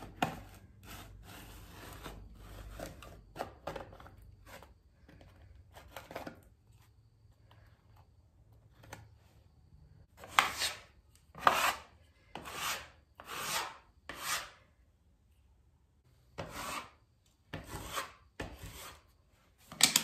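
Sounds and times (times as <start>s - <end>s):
scraper scraping plaster wall: 0.0s - 9.4s, 10.0s - 14.8s, 16.2s - 20.0s.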